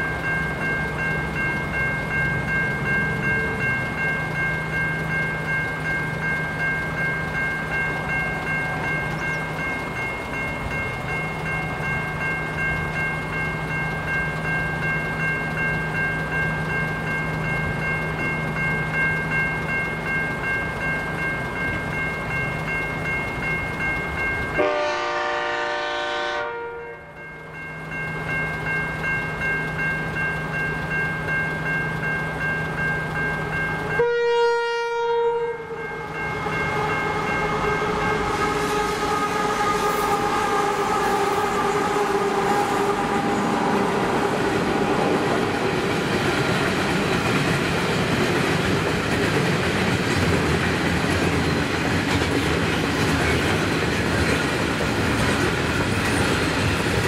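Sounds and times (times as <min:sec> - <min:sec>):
level crossing bell ringing: 0:00.0 - 0:48.6.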